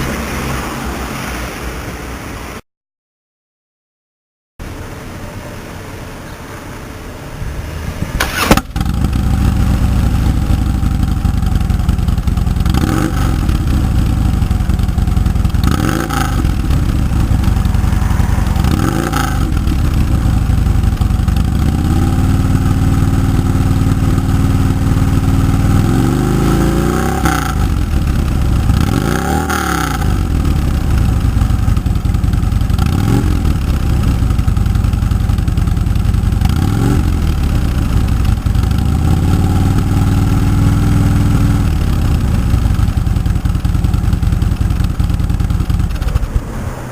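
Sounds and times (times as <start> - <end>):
motorcycle engine idling and revving: 4.6 - 46.9.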